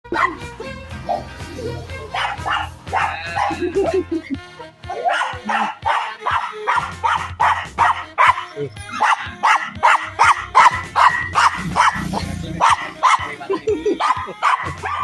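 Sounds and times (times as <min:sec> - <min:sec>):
background music: 0:00.0 - 0:15.0
dog barking: 0:00.1 - 0:01.4, 0:02.0 - 0:04.0, 0:04.9 - 0:15.0.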